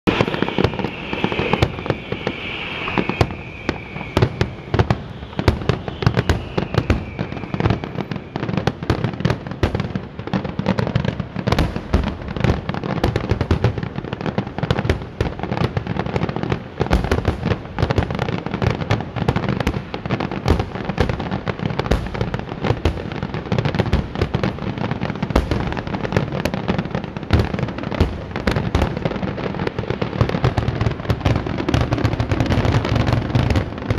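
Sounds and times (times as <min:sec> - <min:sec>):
fireworks bursts and crackle: 0:00.0 - 0:33.9
high firework whistle: 0:00.1 - 0:33.9.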